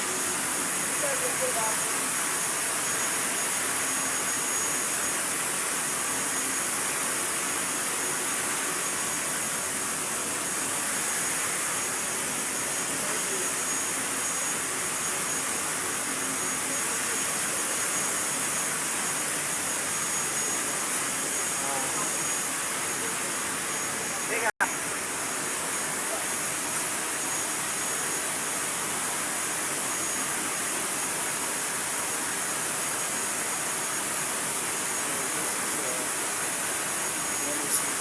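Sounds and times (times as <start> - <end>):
high-pitched machinery hiss: 0.0 - 38.0.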